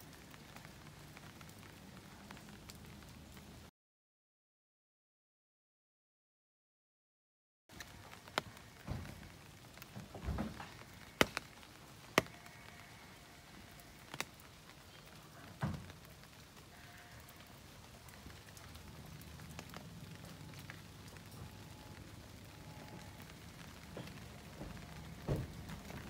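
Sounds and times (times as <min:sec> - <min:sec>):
light rain pattering: 0:00.0 - 0:03.7, 0:07.7 - 0:26.0.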